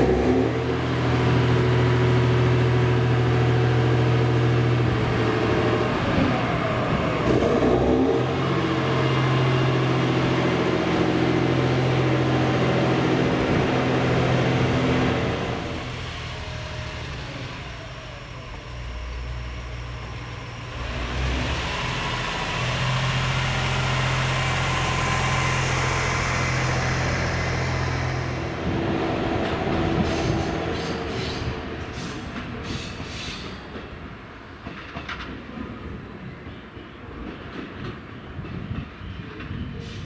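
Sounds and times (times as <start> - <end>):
diesel railcar engine hum: 0.0 - 40.0.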